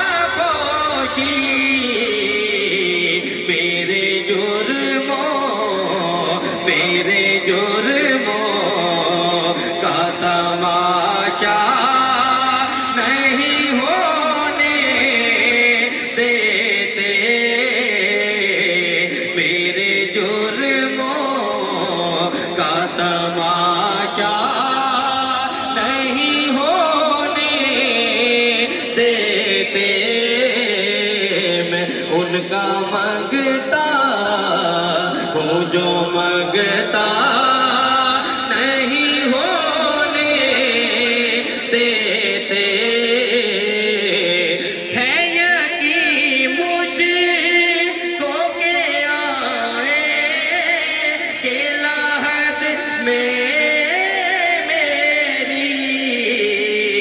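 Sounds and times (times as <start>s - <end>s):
men singing devotional song: 0.0s - 57.0s.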